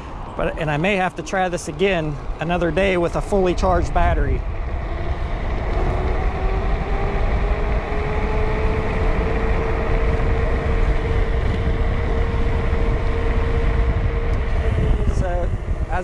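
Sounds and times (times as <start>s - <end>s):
electric scooter motors whining: 0.0s - 16.0s
wind rumble on microphone: 0.0s - 16.0s.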